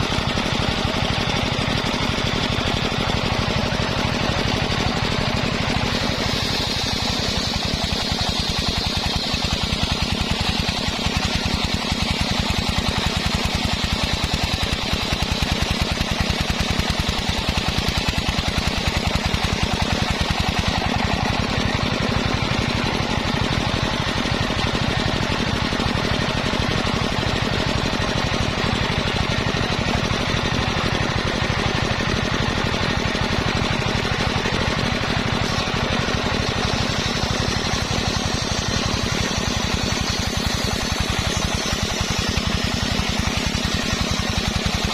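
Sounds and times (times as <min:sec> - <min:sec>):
engine running: 0:00.0 - 0:44.9
saw blade whine cutting wood: 0:00.0 - 0:44.9.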